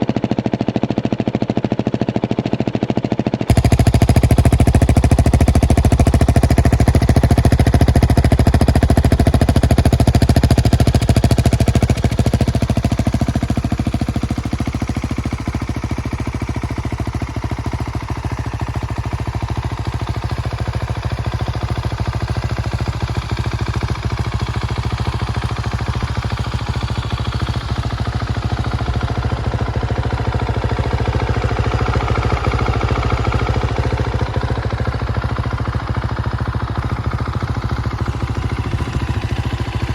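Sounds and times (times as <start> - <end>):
motorcycle engine exhaust pulses: 3.3 - 39.9.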